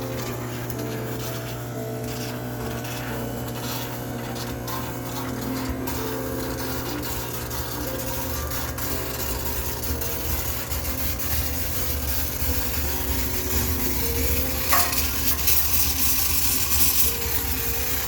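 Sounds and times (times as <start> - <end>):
steam cleaner hissing: 0.0 - 18.0.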